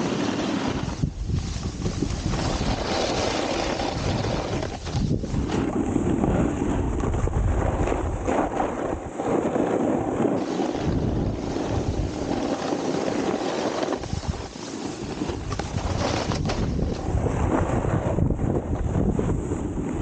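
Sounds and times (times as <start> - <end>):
snowboard scraping icy snow: 0.0 - 20.0
wind buffeting microphone: 0.0 - 20.0.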